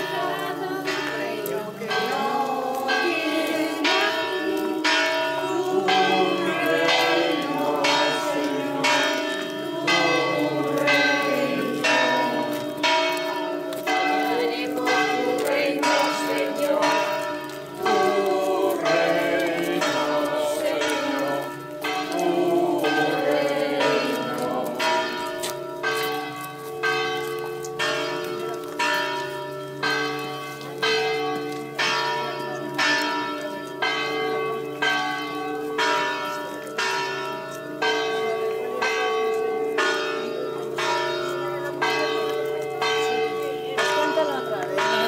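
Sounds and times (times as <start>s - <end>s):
church bell tolling: 0.0s - 45.0s.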